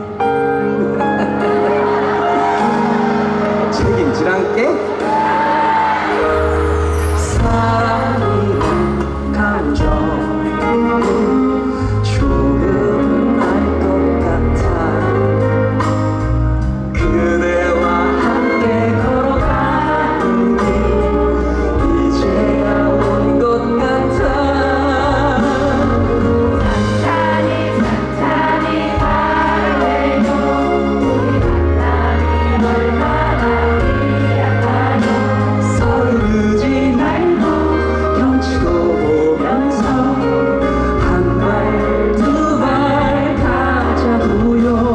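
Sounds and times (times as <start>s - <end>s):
live band playing: 0.0s - 44.9s
singer with backing vocals: 1.5s - 16.3s, 16.9s - 44.9s.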